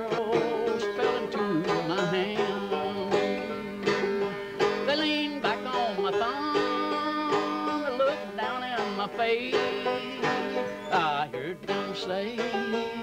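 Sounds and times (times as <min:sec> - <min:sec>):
banjo strumming: 0:00.0 - 0:13.0
man singing: 0:00.0 - 0:13.0.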